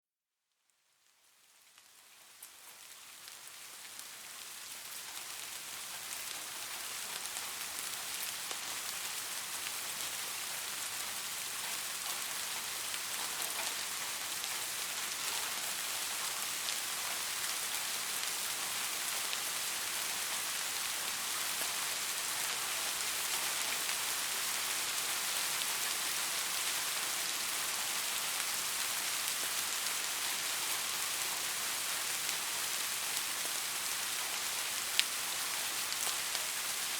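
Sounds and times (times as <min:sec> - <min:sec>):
rain pattering: 0:01.1 - 0:36.9.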